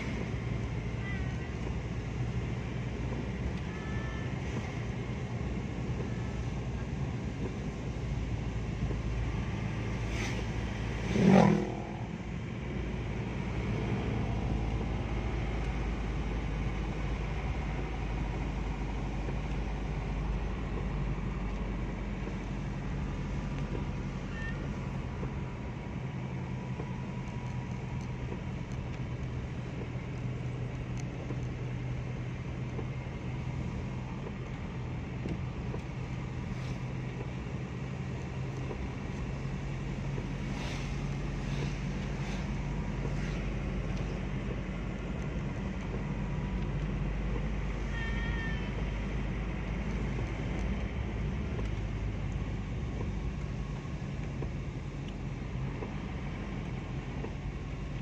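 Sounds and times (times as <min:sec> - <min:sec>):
car engine and tyres humming: 0:00.0 - 0:58.0.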